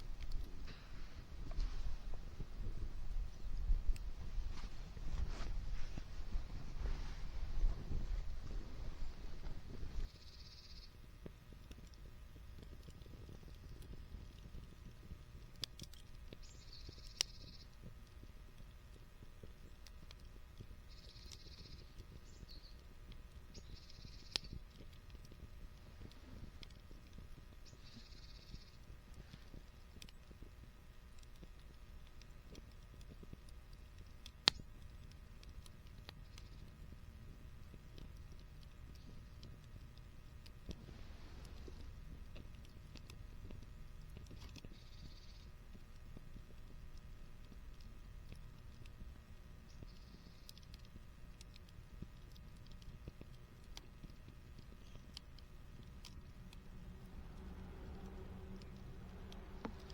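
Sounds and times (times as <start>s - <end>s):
wood fire crackling: 0.0s - 10.3s, 10.9s - 59.9s.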